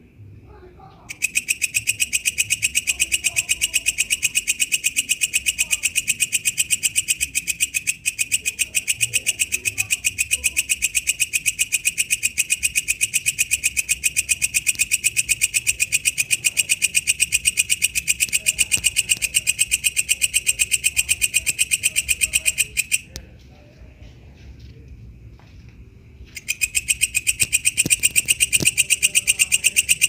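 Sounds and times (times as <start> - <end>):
bush cricket clicking chirps: 1.1 - 23.3, 26.3 - 30.0.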